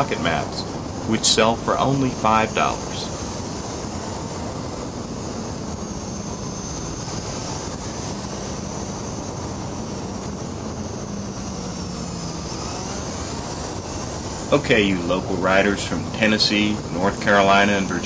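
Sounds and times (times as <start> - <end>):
faint low engine hum: 0.0 - 18.0
wind noise rushing: 0.0 - 18.0.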